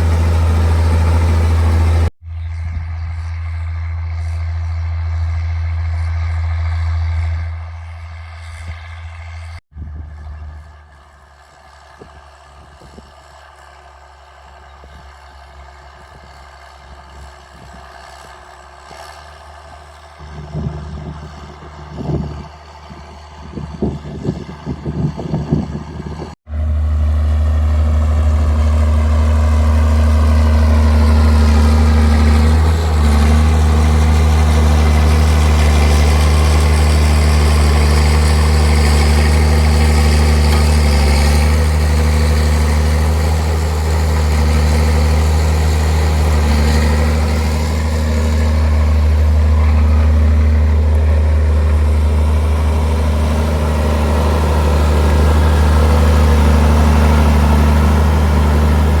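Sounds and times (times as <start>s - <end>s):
tractor diesel engine droning: 0.0s - 9.6s, 10.4s - 59.0s.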